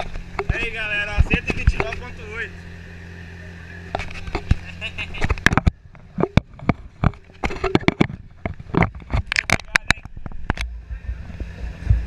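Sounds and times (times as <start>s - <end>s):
exhaust pops and crackles: 0.0s - 2.6s, 3.8s - 12.0s
motorcycle engine idling: 0.0s - 12.0s.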